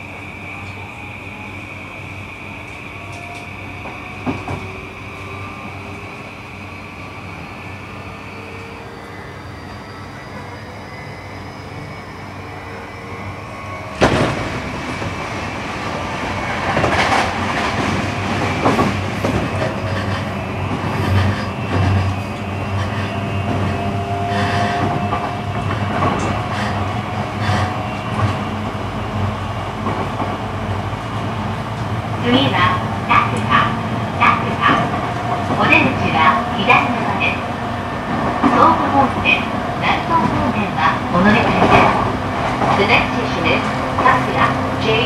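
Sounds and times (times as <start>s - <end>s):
train rolling noise: 0.0s - 45.0s.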